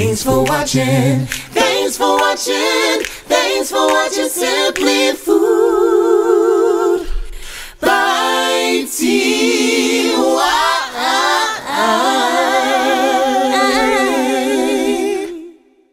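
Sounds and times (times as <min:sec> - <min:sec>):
voices singing in harmony: 0:00.0 - 0:15.9.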